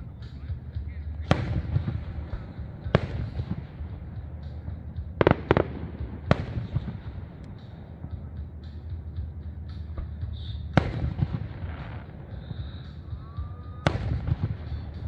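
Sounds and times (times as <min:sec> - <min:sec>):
fireworks bursting: 0:00.0 - 0:15.0
low rumble: 0:00.0 - 0:15.0.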